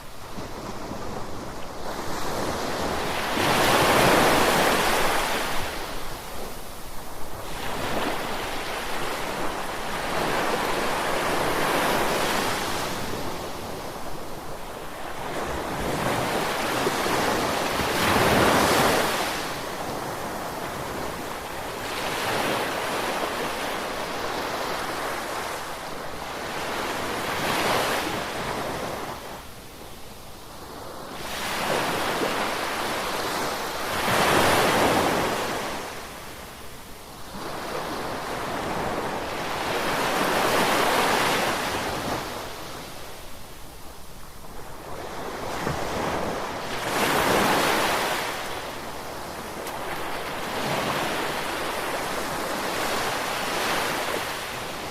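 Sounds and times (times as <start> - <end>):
ocean waves breaking on shore: 0.0 - 54.9.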